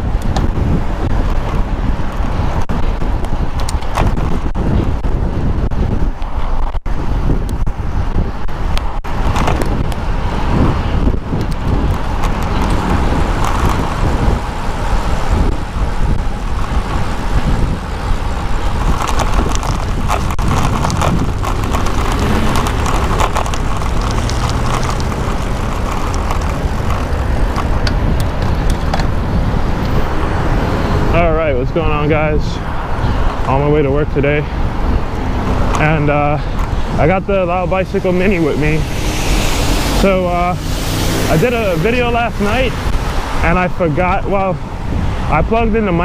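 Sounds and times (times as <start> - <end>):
passing road traffic: 0.0 - 46.0
wind rushing over microphone: 0.0 - 46.0.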